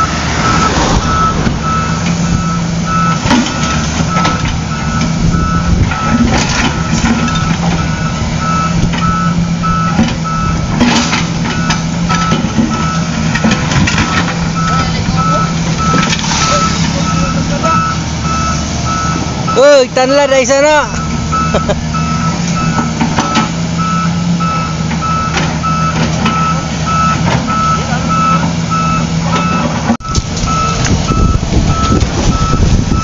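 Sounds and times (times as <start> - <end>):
diesel engine running: 0.0 - 33.0
reversing alarm beeping: 0.0 - 33.0.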